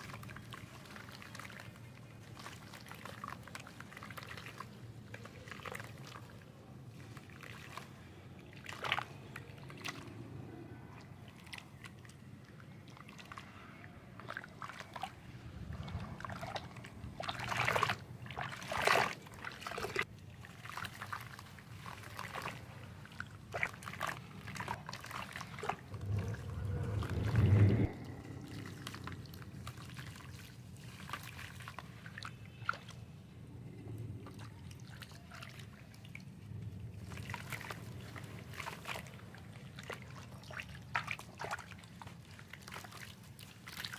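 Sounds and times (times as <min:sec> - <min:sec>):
small splashes and trickles: 0:00.0 - 0:43.9.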